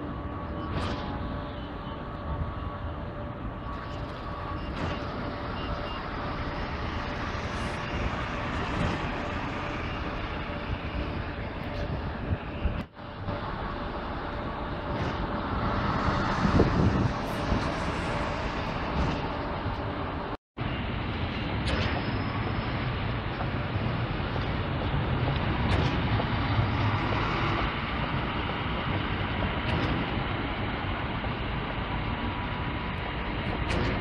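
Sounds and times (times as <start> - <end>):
buses driving past: 0.0 - 34.0.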